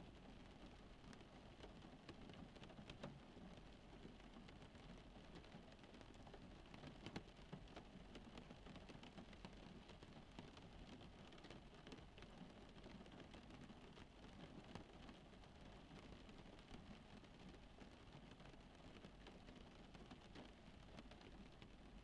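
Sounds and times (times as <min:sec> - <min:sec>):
rain pattering on car roof: 0:00.0 - 0:22.0.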